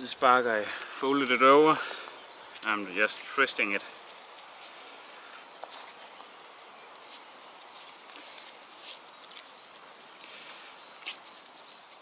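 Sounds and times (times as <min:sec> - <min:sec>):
steady outdoor hiss: 0:00.0 - 0:12.0
bark strips rustling and crackling: 0:00.8 - 0:12.0.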